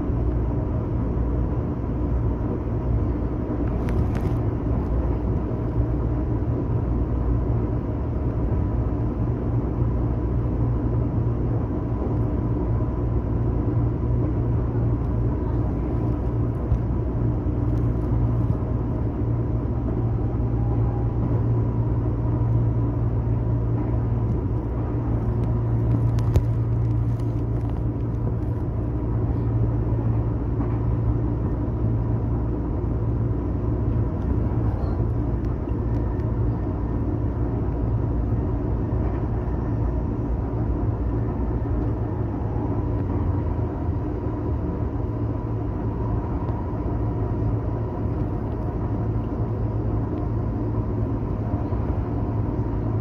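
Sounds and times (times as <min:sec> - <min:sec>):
faint steady whine: 0:00.0 - 0:53.0.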